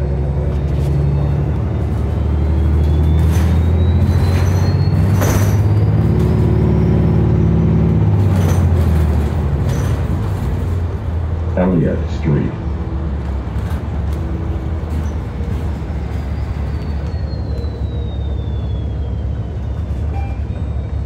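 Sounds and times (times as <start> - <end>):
bus engine drone: 0.0 - 21.0
faint engine whine: 0.0 - 21.0.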